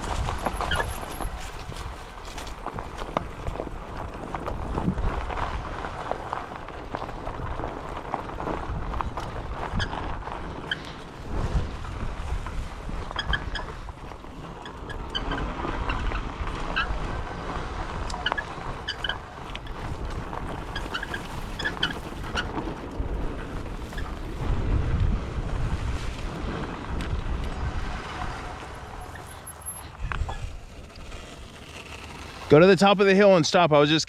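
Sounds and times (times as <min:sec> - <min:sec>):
wind buffeting microphone: 0:00.0 - 0:31.5
tyres rolling over ground: 0:00.0 - 0:33.6.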